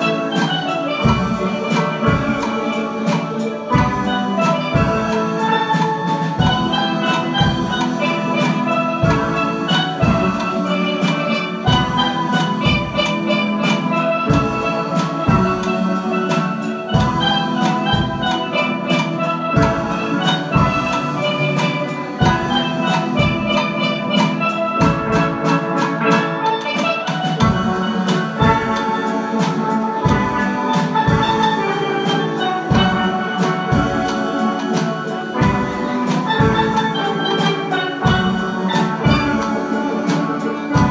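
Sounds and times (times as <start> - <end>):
steady drum beat: 0.0 - 40.9
steelpans playing melody: 0.0 - 40.9.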